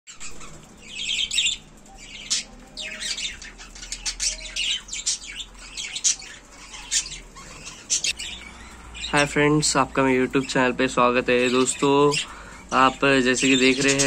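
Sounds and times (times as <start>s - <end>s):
budgerigars chattering: 0.1s - 14.0s.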